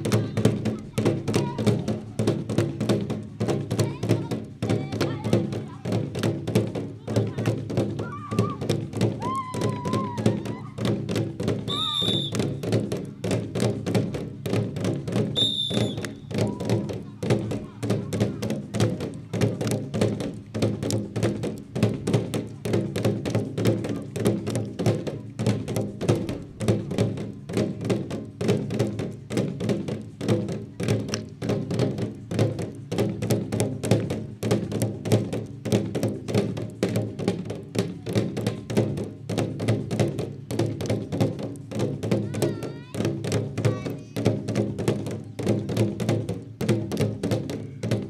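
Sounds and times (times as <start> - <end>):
deep drum beating: 0.0 - 48.0.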